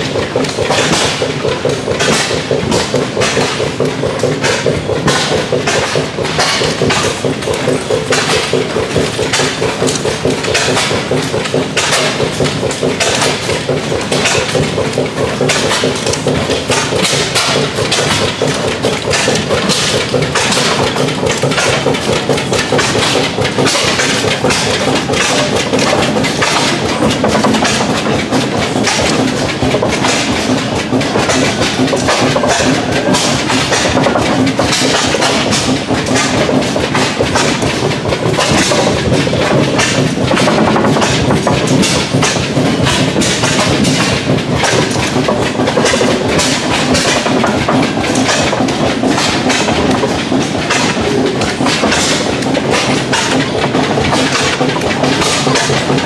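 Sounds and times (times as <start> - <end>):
rodline machinery clattering: 0.0 - 56.0.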